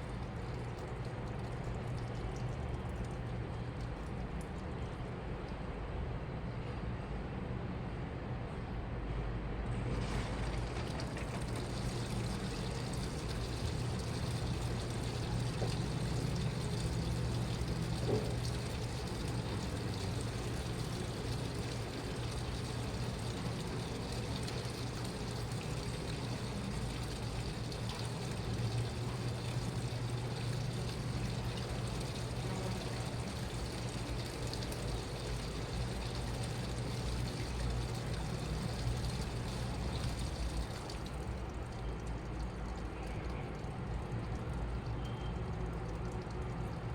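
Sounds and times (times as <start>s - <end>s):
water moving in drum: 0.0s - 5.2s, 9.7s - 46.9s
washing machine motor hum: 0.0s - 5.5s, 9.6s - 46.9s.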